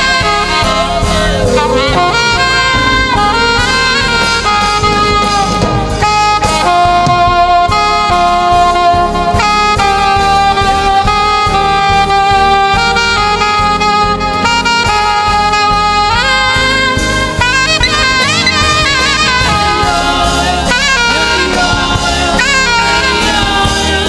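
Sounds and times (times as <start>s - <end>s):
band playing: 0.0s - 24.0s
drums: 0.0s - 24.0s
saxophone slow melody: 0.0s - 24.0s.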